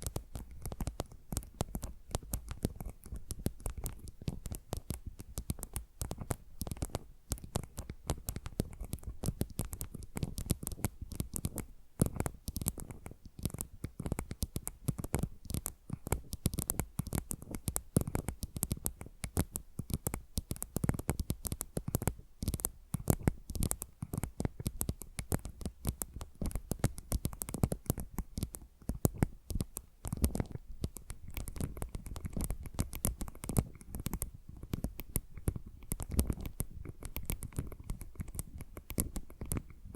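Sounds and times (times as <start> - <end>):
fingernail scratching and tapping: 0.0 - 39.9.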